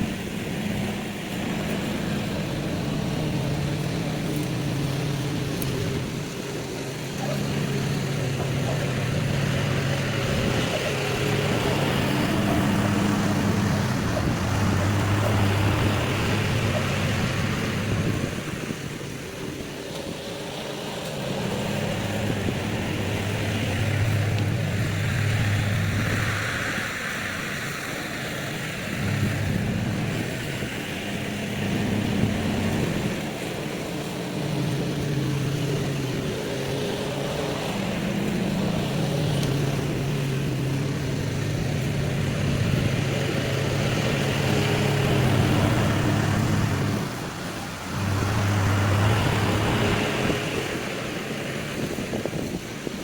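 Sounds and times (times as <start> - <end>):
small petrol engine running: 0.0 - 53.0.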